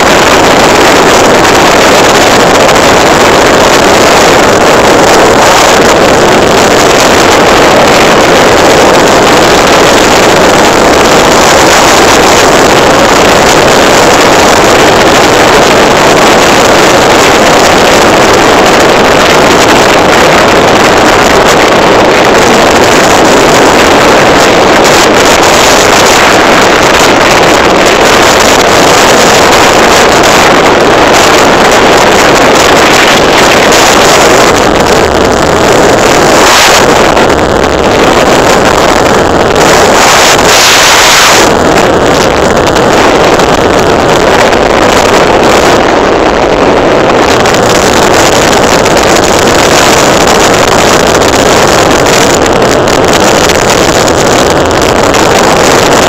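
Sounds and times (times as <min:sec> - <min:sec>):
wind blasting microphone: 0:00.0 - 0:56.0.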